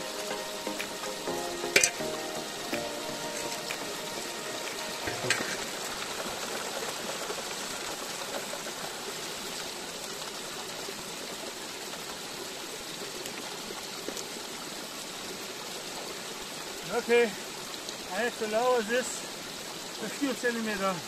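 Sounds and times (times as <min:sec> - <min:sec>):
water pouring into pool: 0:00.0 - 0:21.0
water running down metal sluice: 0:00.0 - 0:21.0.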